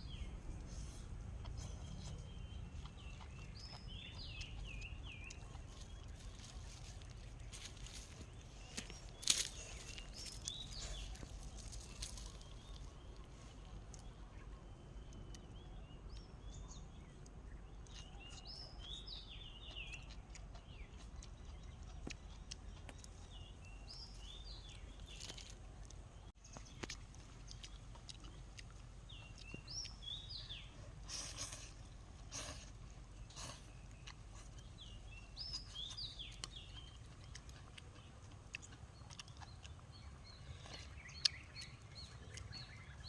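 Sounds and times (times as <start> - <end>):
birds chirping: 0.0 - 43.0
low background rumble: 0.0 - 43.0.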